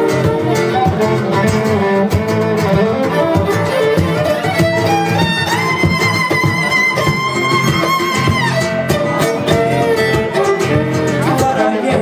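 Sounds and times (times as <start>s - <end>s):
acoustic melody notes: 0.0s - 12.0s
strummed chords: 0.0s - 12.0s.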